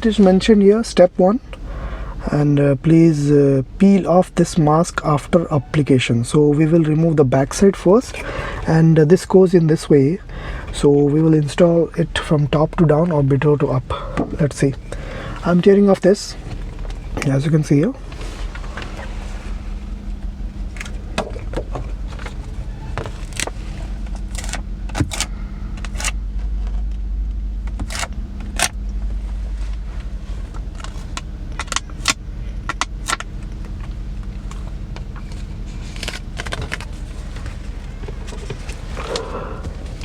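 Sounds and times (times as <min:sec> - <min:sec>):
low car cabin hum: 0:00.0 - 0:40.0.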